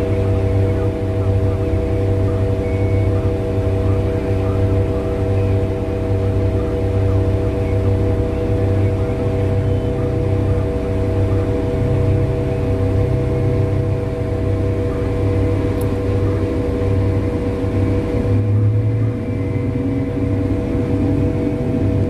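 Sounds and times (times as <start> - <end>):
diesel engine drone with whine: 0.0 - 22.0.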